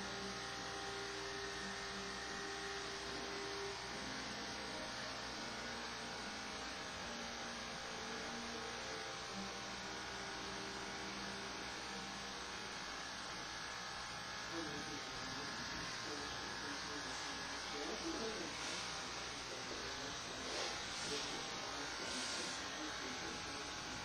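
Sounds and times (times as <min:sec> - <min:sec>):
electric hair clippers humming: 0:00.0 - 0:24.0.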